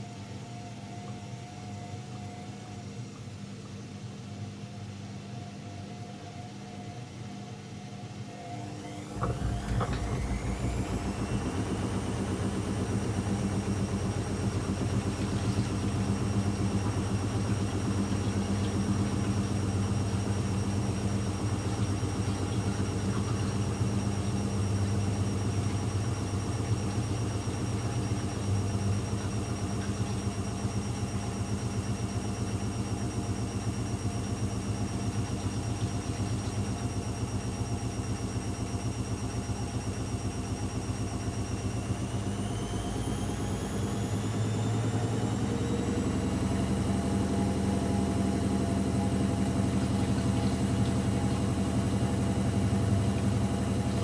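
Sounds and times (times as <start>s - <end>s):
washing machine motor whine: 5.3s - 54.0s.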